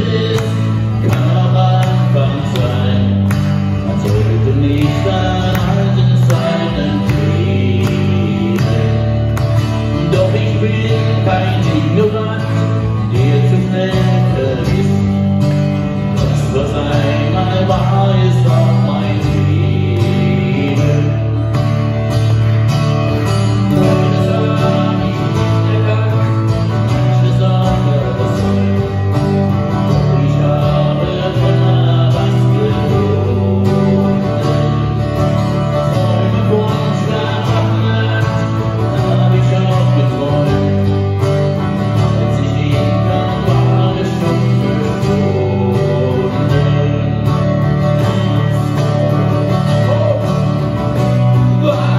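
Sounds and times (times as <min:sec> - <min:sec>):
man singing: 0:00.0 - 0:21.8, 0:23.1 - 0:51.9
acoustic guitars playing: 0:00.0 - 0:51.9.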